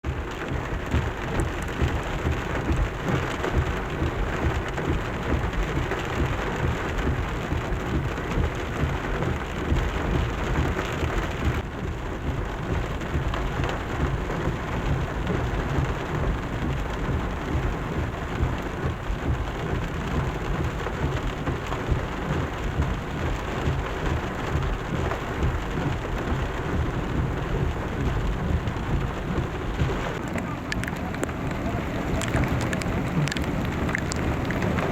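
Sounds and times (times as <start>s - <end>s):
deep rumble: 0.0s - 34.9s
torrential rain pouring: 0.0s - 34.9s.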